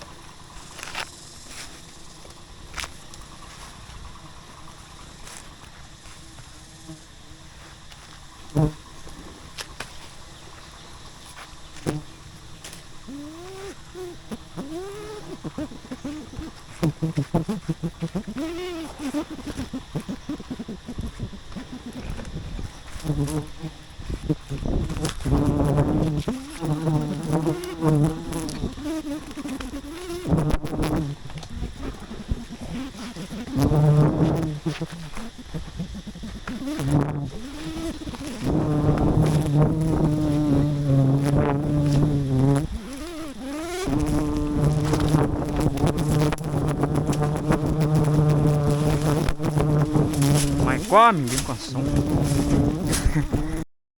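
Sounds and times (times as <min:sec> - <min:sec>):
bees buzzing: 0:00.0 - 0:53.7.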